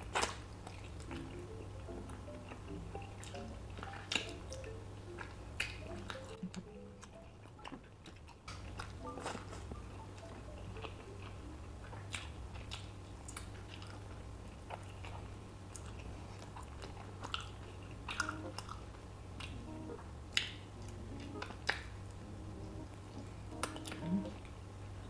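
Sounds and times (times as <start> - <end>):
chewing and mouth smacking: 0.0 - 19.6, 20.3 - 22.2.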